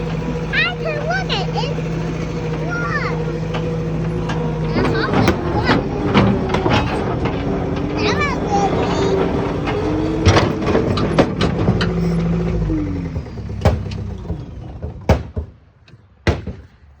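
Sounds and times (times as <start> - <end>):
metal knocks and clanks: 0.0 - 16.7
loader engine running: 0.0 - 17.0.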